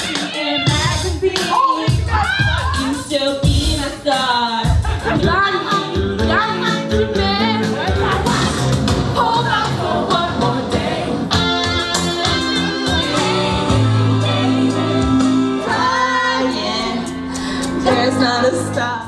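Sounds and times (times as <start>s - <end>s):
backing track music: 0.0s - 19.0s
women singing karaoke: 0.0s - 19.0s.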